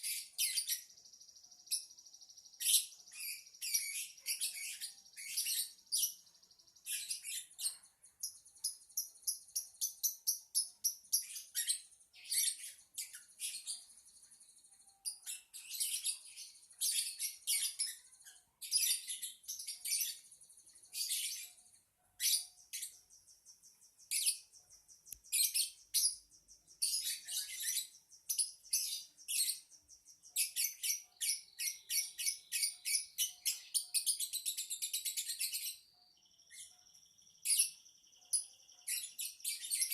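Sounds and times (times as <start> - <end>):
lovebird chattering and trilling: 0.0 - 39.9.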